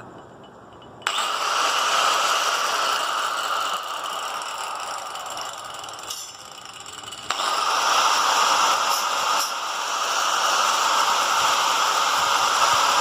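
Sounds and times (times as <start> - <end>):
angle grinder whining: 1.0 - 13.0.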